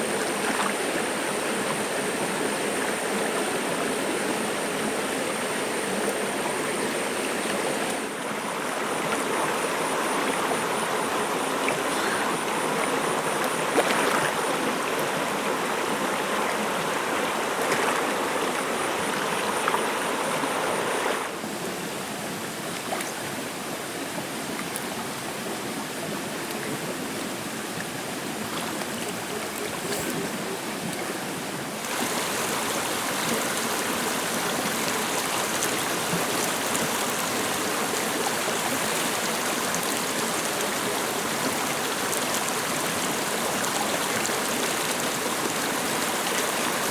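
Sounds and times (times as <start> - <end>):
stream flowing: 0.0 - 46.9.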